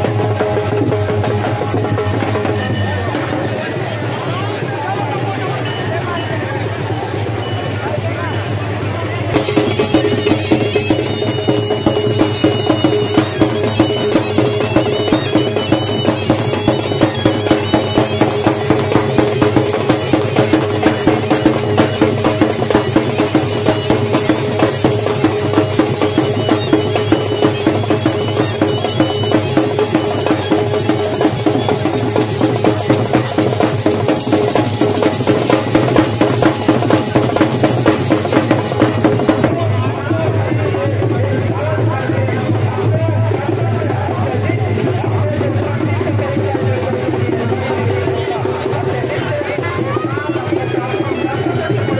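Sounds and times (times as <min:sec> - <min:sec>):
drums playing steady beat: 0:00.0 - 0:05.7, 0:08.0 - 0:51.9.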